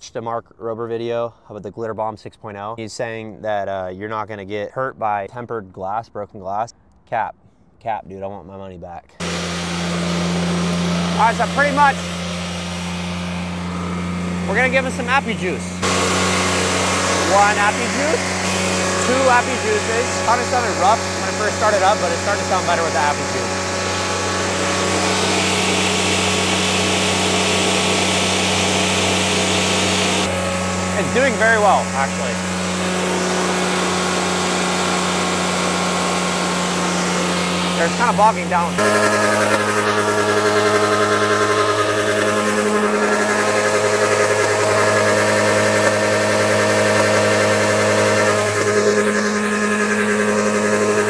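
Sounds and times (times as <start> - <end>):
car engine idling: 9.2 - 51.0.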